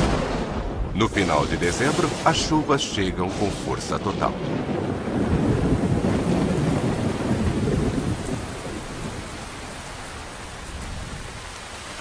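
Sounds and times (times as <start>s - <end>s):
heavy rain: 0.0s - 12.0s
thunder rumble: 0.0s - 12.0s.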